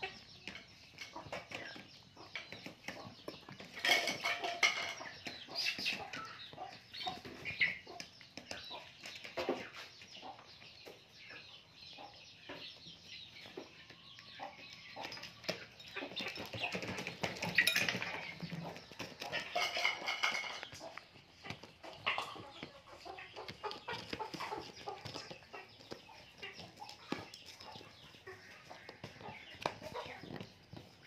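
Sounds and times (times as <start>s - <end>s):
chicken clucking: 0.0s - 31.0s.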